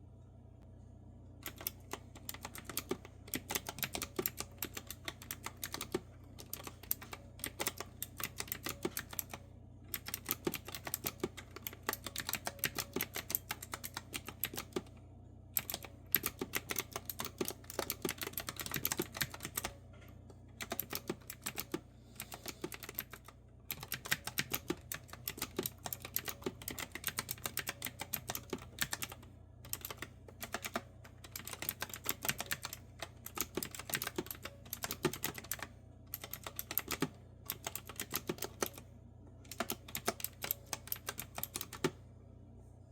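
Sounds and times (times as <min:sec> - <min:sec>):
faint low hum: 0:00.0 - 0:42.9
mechanical keyboard typing clicks: 0:01.4 - 0:14.9, 0:15.6 - 0:19.8, 0:20.5 - 0:38.9, 0:39.5 - 0:42.0.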